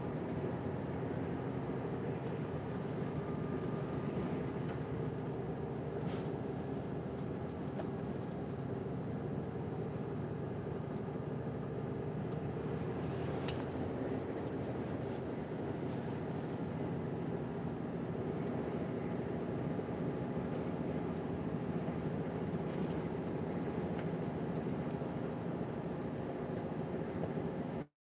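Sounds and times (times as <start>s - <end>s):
truck diesel engine drone: 0.0s - 27.9s.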